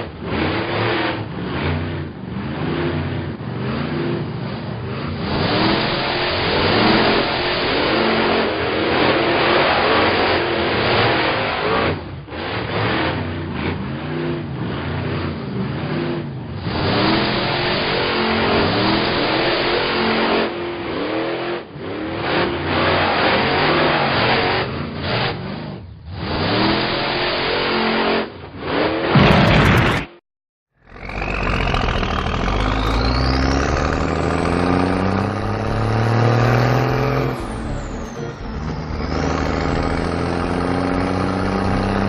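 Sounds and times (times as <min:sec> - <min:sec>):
cartoon car engines revving: 0:00.0 - 0:30.2, 0:30.8 - 0:42.0.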